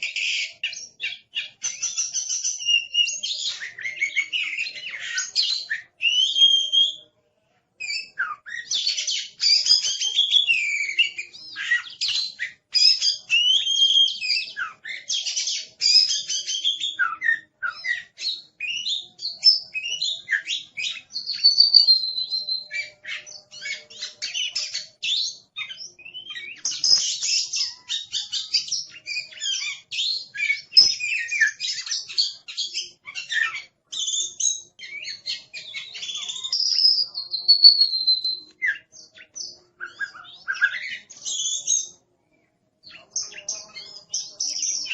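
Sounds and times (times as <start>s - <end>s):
songbird singing: 7.8s - 44.9s.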